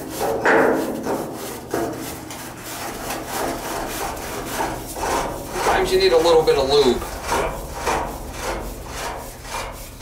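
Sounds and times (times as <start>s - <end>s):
pipe threads rasping: 0.0s - 10.0s.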